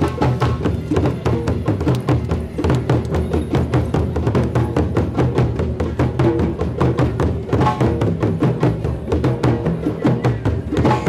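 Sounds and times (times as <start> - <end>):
hand drums playing fast beat: 0.0 - 11.0.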